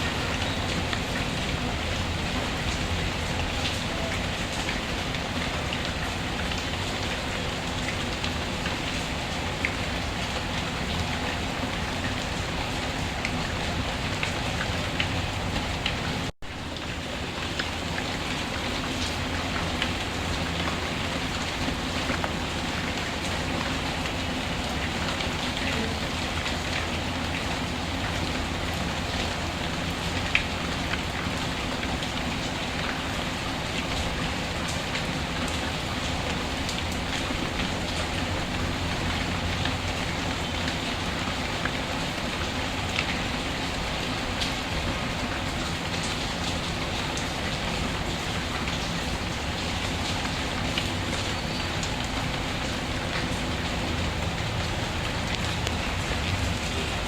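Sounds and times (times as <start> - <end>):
rain falling on a surface: 0.0 - 57.0.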